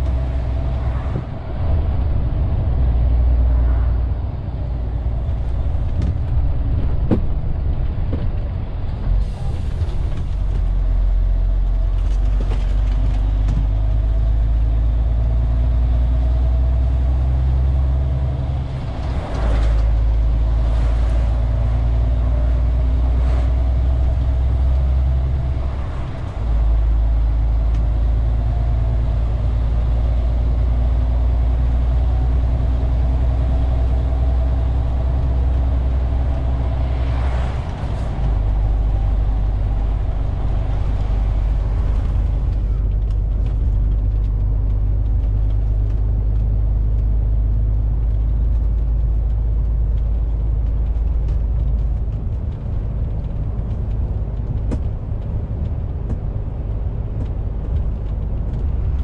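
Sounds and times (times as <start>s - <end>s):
road noise: 0.0s - 59.0s
truck diesel engine drone: 0.0s - 59.0s.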